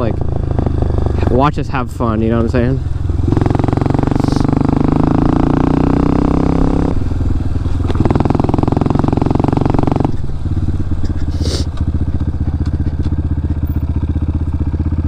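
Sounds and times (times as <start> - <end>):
dirt bike engine revving and idling: 0.0 - 15.0.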